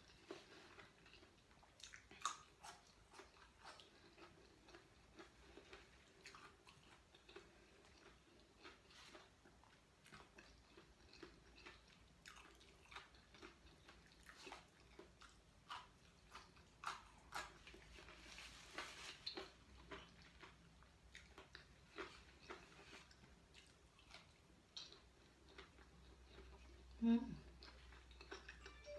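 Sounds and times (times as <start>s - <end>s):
person chewing raw vegetables: 0.0s - 28.9s.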